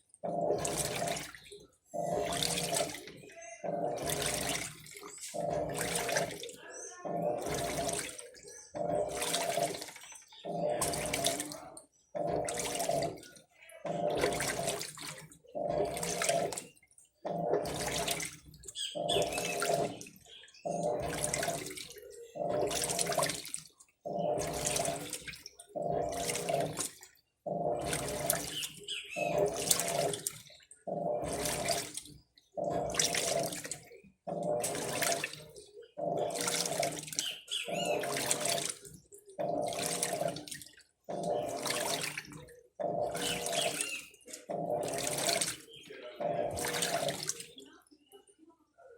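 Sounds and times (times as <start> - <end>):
motor humming: 0.0 - 47.5
washing machine water sloshing: 0.0 - 48.9.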